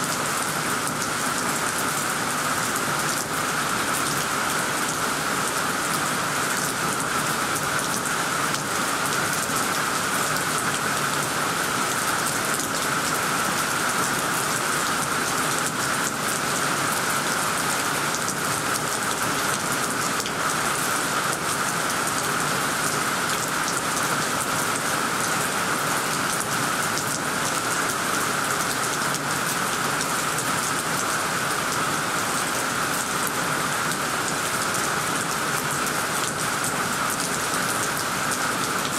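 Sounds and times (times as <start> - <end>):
heavy rain on leaves and roof: 0.0 - 38.9.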